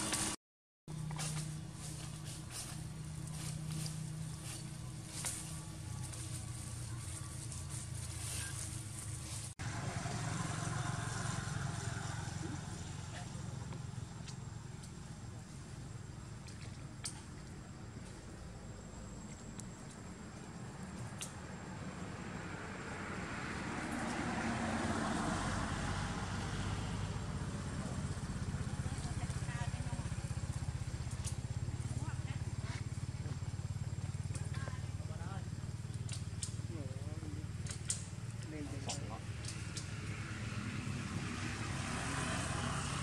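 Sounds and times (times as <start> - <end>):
vehicle engine passing by: 0.0 - 43.0
low outdoor rumble: 0.9 - 24.6, 25.6 - 41.6.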